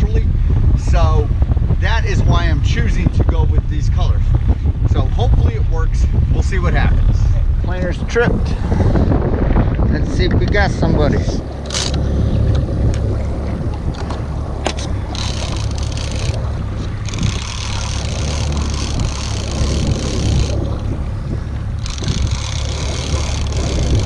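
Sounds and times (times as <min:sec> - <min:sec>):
wind on microphone: 0:00.0 - 0:24.0
water against boat hull: 0:01.3 - 0:24.0.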